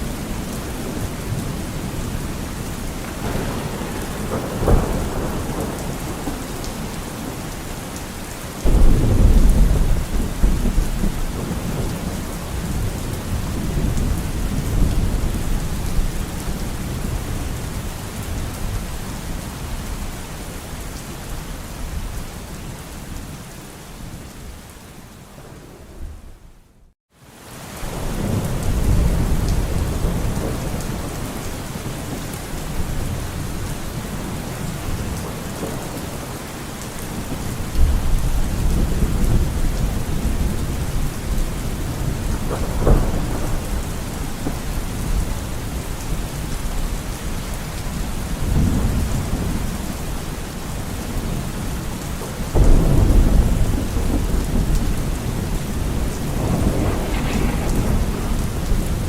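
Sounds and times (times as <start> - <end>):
thunder rumbles and cracks: 0.0 - 20.2, 27.9 - 59.0
steady heavy rain: 0.0 - 59.0.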